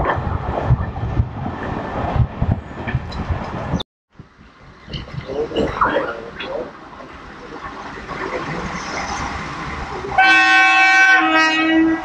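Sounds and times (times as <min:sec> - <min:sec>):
wind buffeting microphone: 0:00.0 - 0:10.3
train rumble: 0:00.0 - 0:12.0.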